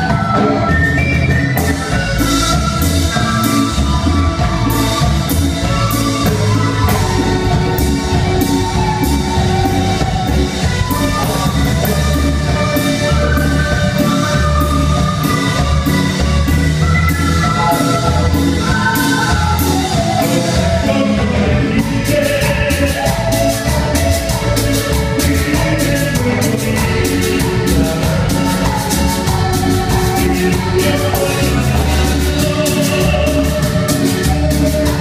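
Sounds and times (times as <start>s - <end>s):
drum kit beat with cymbals: 0.0s - 35.0s
live band playing: 0.0s - 35.0s.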